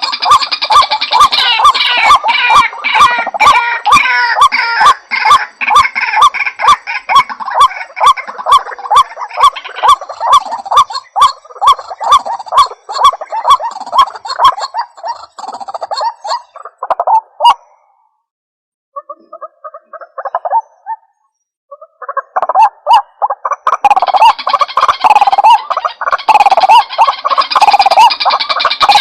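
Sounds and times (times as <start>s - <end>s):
higher chattering bird calls: 0.0s - 17.9s, 19.0s - 29.0s
bird repeated call notes: 0.0s - 18.1s, 18.9s - 29.0s.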